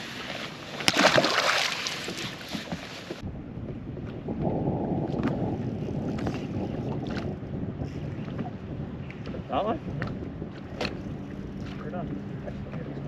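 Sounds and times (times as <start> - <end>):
wind and water rushing: 0.0 - 13.0
wind buffeting microphone: 0.6 - 13.0.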